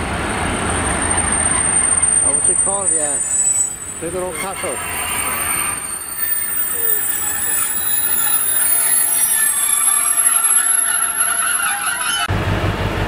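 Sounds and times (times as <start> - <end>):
wheels squealing against rails: 0.4 - 12.3.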